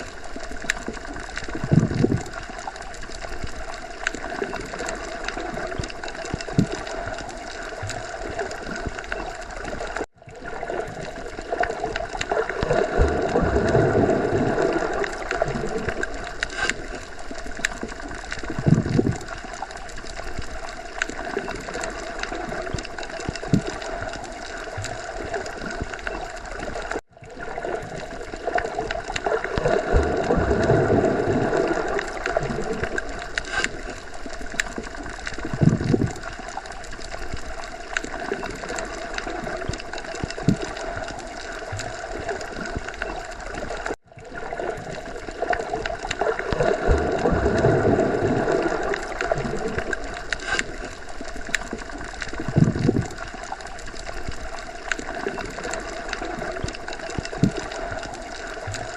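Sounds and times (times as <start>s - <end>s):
underwater water wash and gurgle: 0.0s - 58.9s.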